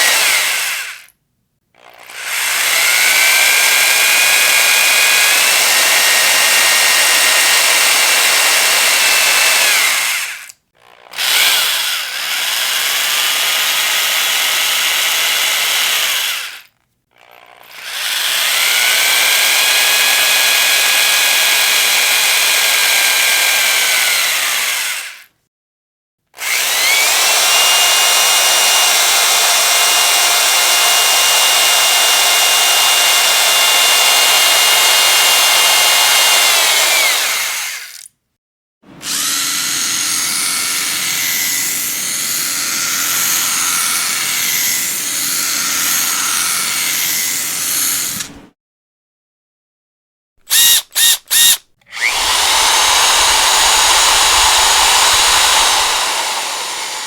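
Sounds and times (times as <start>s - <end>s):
electric drill motor whine: 1.8s - 25.2s, 26.4s - 38.0s, 39.0s - 48.3s, 50.5s - 57.0s.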